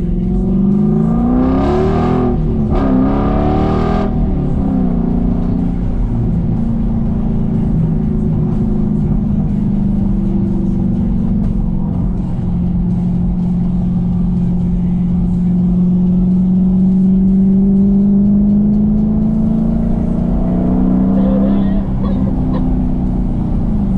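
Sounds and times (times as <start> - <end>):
car engine accelerating hard: 0.0 - 23.9.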